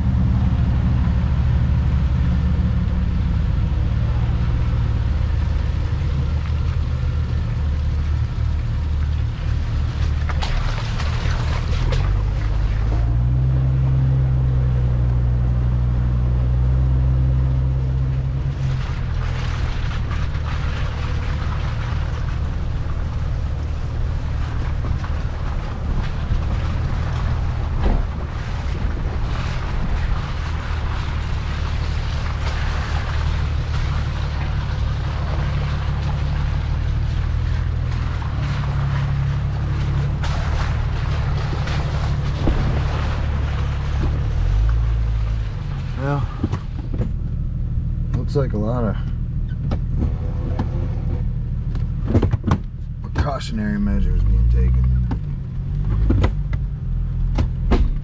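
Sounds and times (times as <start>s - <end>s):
engine running with low drone: 0.0s - 58.0s.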